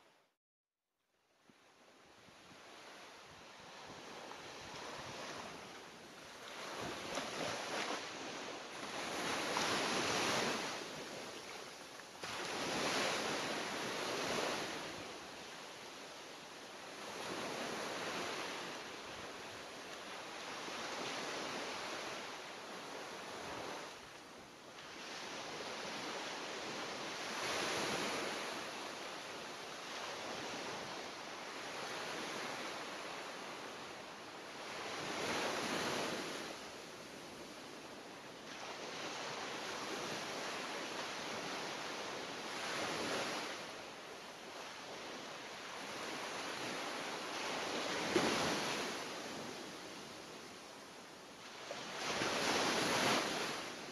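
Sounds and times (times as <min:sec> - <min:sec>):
ocean waves breaking: 0:02.4 - 0:24.2, 0:24.8 - 0:53.9.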